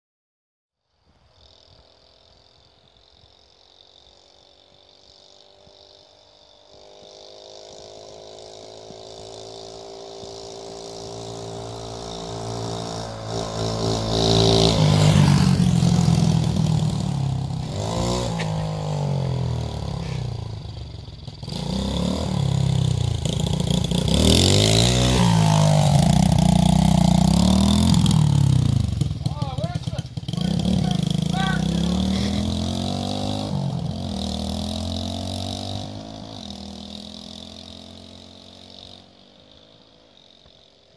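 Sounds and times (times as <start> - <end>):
mini bike engine revving: 1.3 - 40.9.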